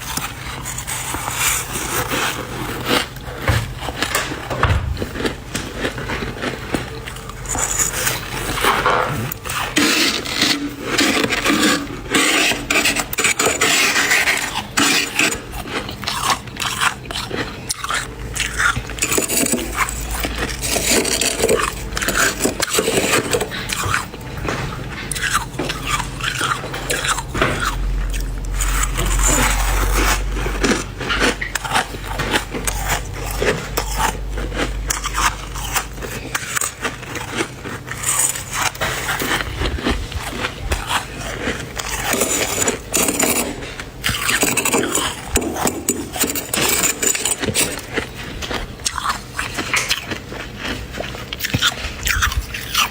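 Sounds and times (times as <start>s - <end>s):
spoon scraping frost: 0.0s - 52.9s.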